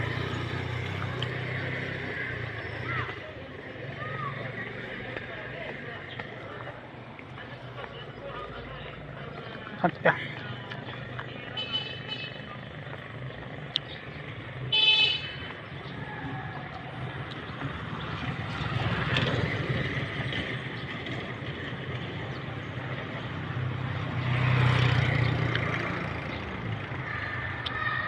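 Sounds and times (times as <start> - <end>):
vehicle engine and tyre noise: 0.0 - 28.0.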